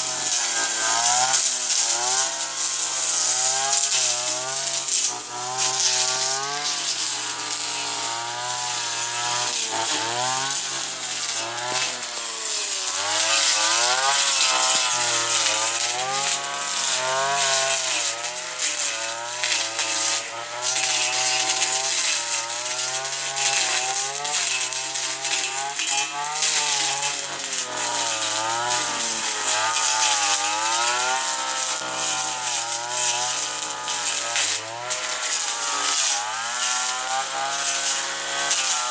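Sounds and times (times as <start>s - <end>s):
brushcutter cutting grass: 0.0s - 38.9s.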